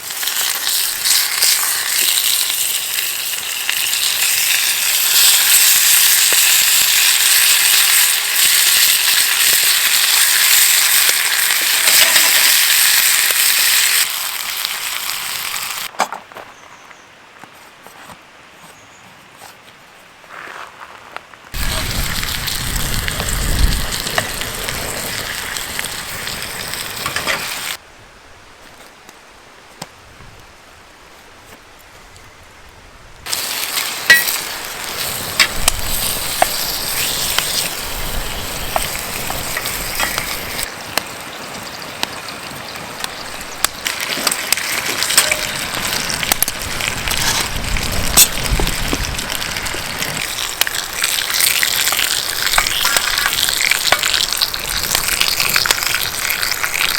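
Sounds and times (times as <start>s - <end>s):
bacon sizzling in a frying pan: 0.0s - 15.9s, 21.6s - 27.8s, 33.3s - 56.9s
campfire crackles: 0.0s - 15.9s, 21.5s - 27.8s, 33.2s - 56.9s.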